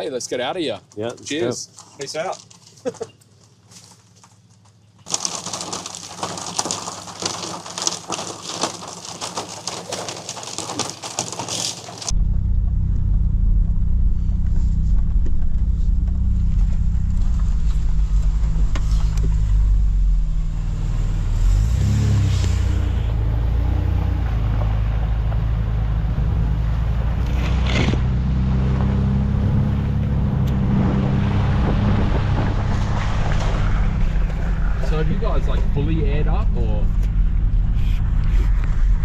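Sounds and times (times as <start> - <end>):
car engine and tyres droning: 0.0 - 39.0.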